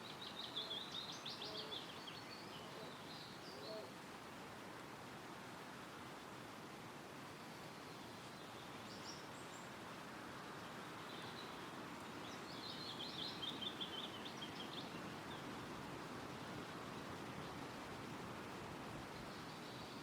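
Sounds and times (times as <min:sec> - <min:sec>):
wind rustling through trees: 0:00.0 - 0:20.0.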